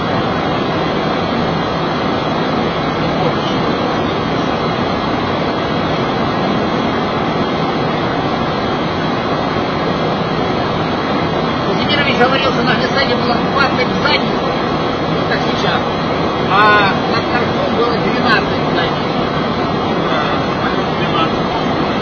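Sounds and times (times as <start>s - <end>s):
airflow and engine noise: 0.0s - 22.0s.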